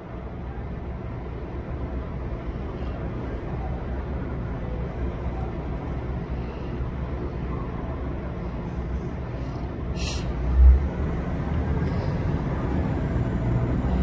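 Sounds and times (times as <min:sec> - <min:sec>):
bus engine rumble: 0:00.0 - 0:14.0
street traffic: 0:00.0 - 0:14.0.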